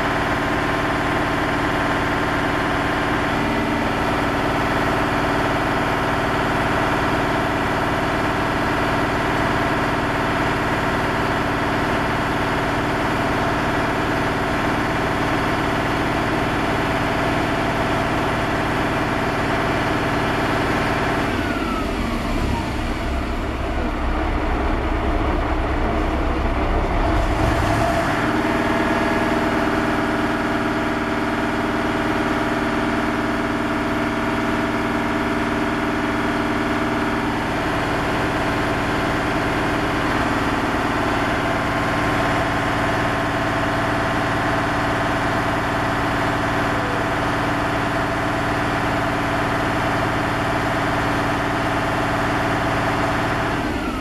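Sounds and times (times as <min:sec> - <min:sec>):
crane engine running: 0:00.0 - 0:54.0
high engine whine: 0:00.0 - 0:54.0.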